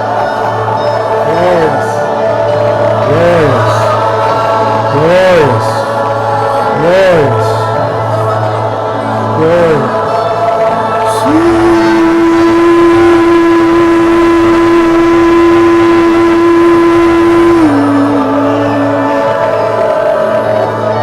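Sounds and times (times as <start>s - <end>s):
person singing worship music: 0.0s - 21.0s
sustained backing tone: 0.0s - 21.0s.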